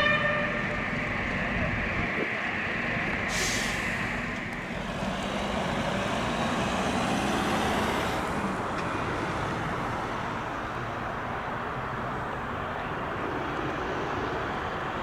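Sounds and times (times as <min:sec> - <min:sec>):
fire engine driving past: 0:00.0 - 0:15.0
tyre and traffic noise: 0:00.0 - 0:15.0.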